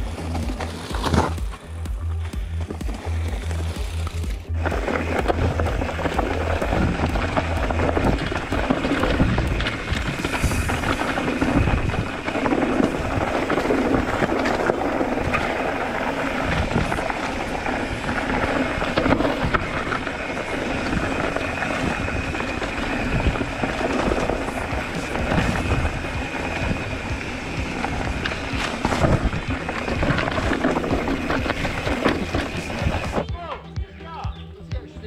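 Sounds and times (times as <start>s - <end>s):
bike rattling and knocking: 0.0s - 33.3s
microphone rumble: 0.0s - 33.3s
bike tyres crunching over dirt: 0.0s - 33.5s.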